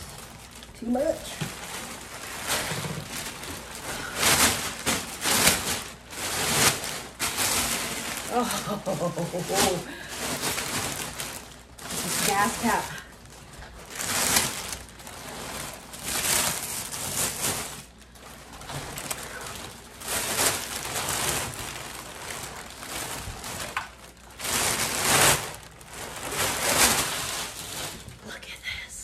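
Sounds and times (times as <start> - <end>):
plastic wrapping crinkling: 0.0 - 28.3.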